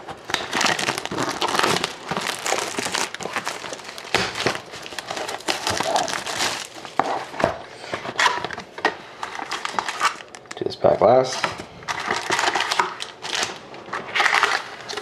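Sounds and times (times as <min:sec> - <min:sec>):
plastic shrink-wrap crinkling: 0:00.0 - 0:07.5, 0:09.2 - 0:11.0, 0:11.9 - 0:15.0.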